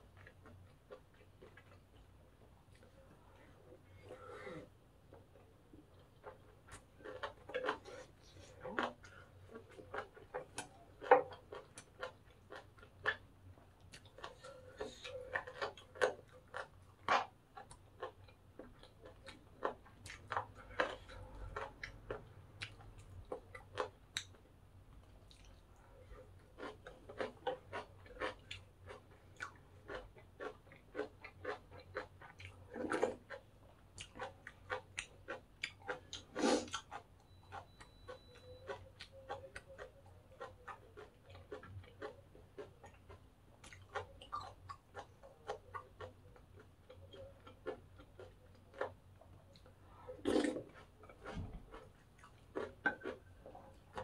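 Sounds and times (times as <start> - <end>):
chewing crunchy food: 0.0 - 54.0.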